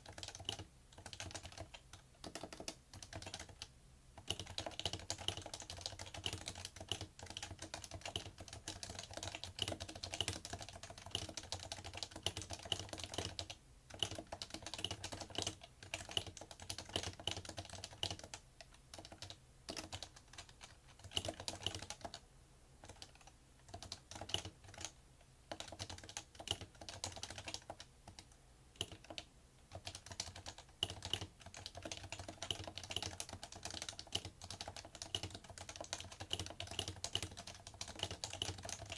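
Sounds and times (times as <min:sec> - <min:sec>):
keyboard typing clacks: 0:00.0 - 0:22.2, 0:22.8 - 0:38.9.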